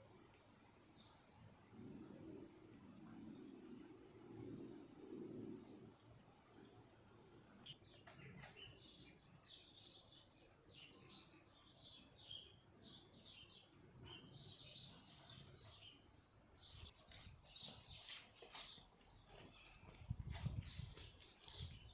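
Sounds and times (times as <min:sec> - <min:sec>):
small birds chirping: 0:03.3 - 0:21.9.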